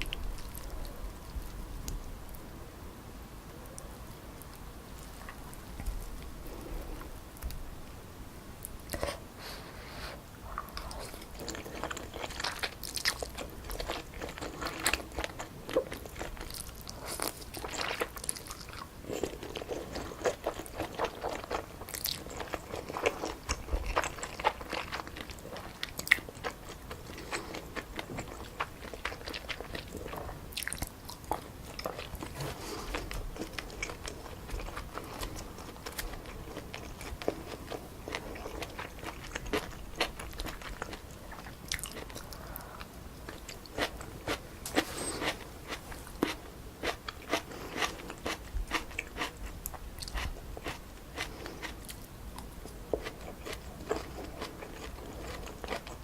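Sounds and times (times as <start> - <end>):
close chewing of noodles: 10.4 - 56.0.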